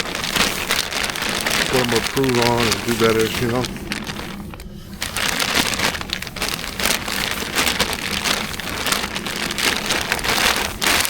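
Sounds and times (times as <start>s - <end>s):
snow pattering on a surface: 0.0s - 11.0s.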